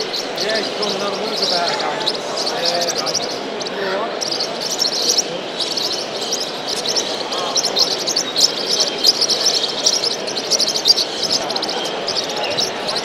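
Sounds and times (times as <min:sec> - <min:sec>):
birds chirping: 0:00.0 - 0:13.0
murmur of crowd talking: 0:00.0 - 0:13.0.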